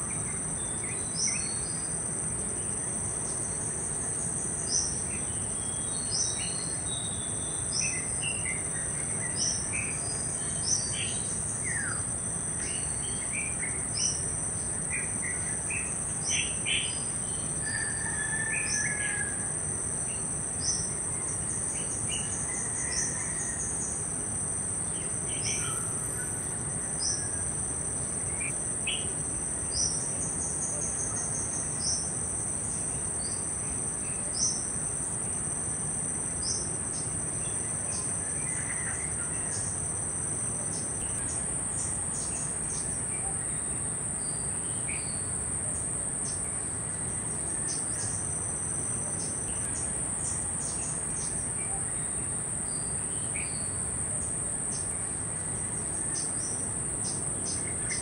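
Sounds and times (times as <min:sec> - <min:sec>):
insect drone: 0:00.0 - 0:58.0.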